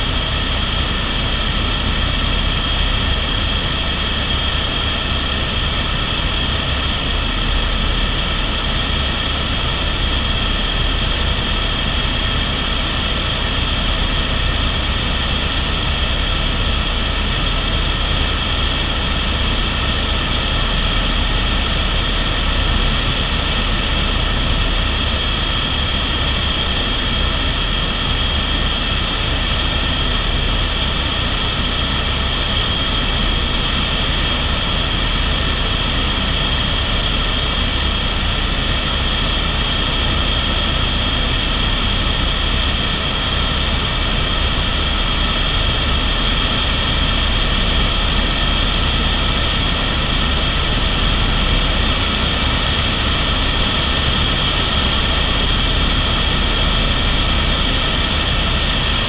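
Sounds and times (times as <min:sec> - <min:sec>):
helicopter engine whine: 0:00.0 - 0:59.0
helicopter rotor noise: 0:00.0 - 0:59.0.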